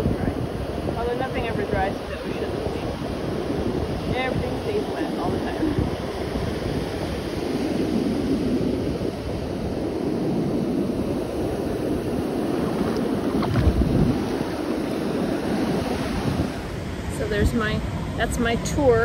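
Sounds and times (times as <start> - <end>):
ocean surf washing ashore: 0.0 - 19.0
wind buffeting microphone: 0.0 - 19.0.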